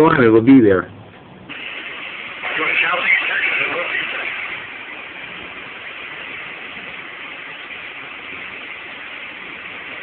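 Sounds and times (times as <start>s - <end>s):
radio static hiss: 1.5s - 10.0s.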